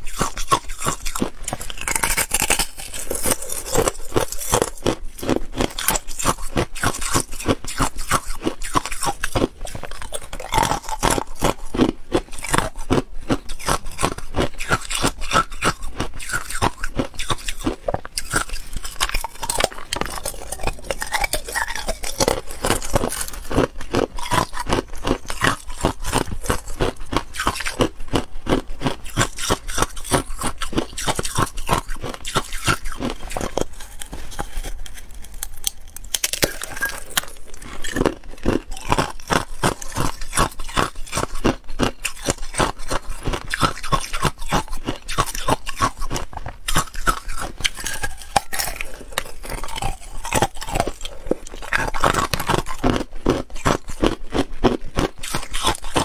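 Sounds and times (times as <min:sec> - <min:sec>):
ice being chewed: 0:00.0 - 0:56.0.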